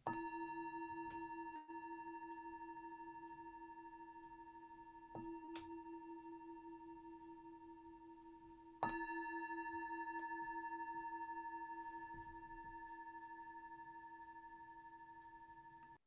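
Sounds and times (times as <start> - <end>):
singing bowl ringing: 0.0 - 16.0.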